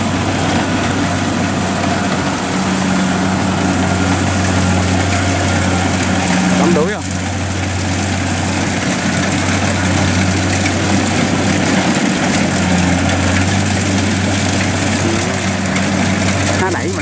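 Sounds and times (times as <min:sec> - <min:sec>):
combine harvester engine hum: 0:00.0 - 0:17.0
machinery noise: 0:00.0 - 0:17.0.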